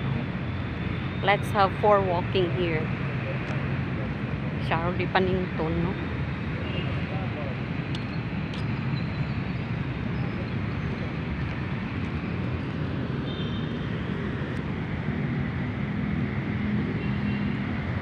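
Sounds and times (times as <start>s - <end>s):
city traffic rumble: 0.0s - 18.0s
faint engine hum: 0.0s - 18.0s.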